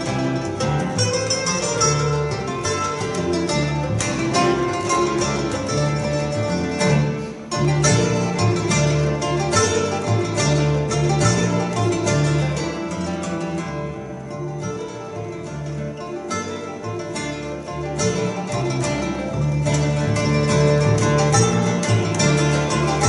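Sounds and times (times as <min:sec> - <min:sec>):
acoustic guitar: 0:00.0 - 0:23.0
double bass: 0:00.0 - 0:23.0
mandolin: 0:00.0 - 0:23.0.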